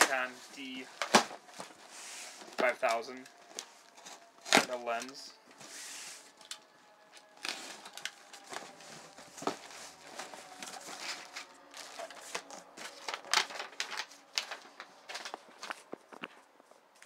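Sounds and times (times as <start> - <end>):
paper and plastic packing crinkling: 0.0 - 16.5.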